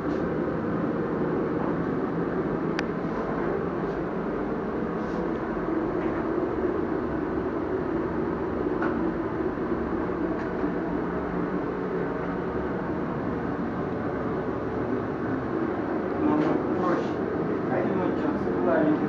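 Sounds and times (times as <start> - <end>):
blower machine running: 0.0 - 19.0.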